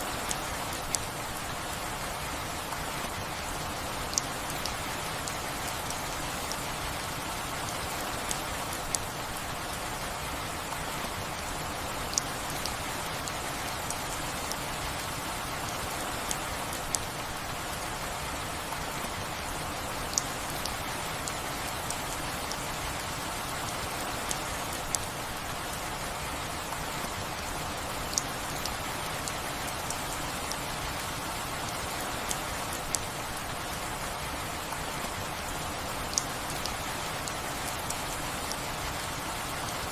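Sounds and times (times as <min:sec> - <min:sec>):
steady rain falling: 0:00.0 - 0:39.9
raindrops ticking: 0:02.9 - 0:09.9, 0:11.8 - 0:19.1, 0:19.8 - 0:39.9.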